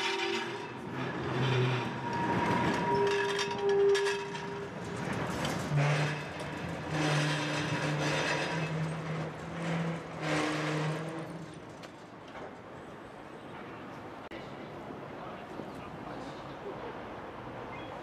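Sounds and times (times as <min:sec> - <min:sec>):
tram humming: 0:00.0 - 0:18.0
tram rattling: 0:00.0 - 0:18.0.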